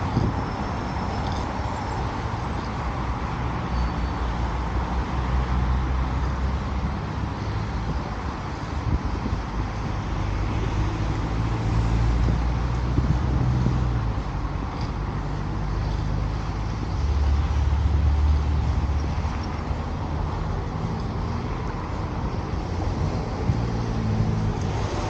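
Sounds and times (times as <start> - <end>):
vehicle engines passing: 0.0 - 25.0.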